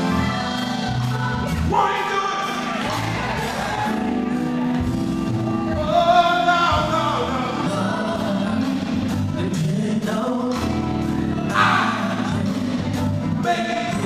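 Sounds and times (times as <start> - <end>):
gospel group singing: 0.0 - 14.0
instrumental accompaniment: 0.0 - 14.0.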